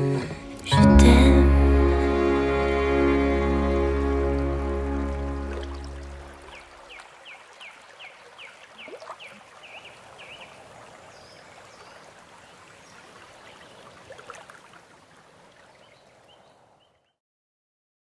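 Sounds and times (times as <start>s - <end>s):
water trickling: 0.4s - 16.6s.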